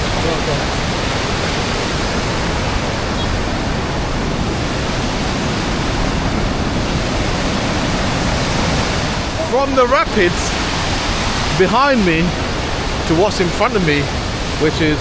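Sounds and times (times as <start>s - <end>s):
waterfall and rapids roaring: 0.0s - 15.0s.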